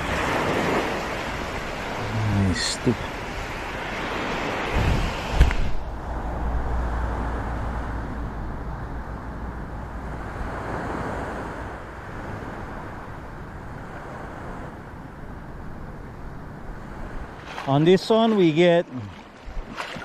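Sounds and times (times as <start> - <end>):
surf on reef: 0.0 - 20.0
wind buffeting microphone: 3.1 - 20.0.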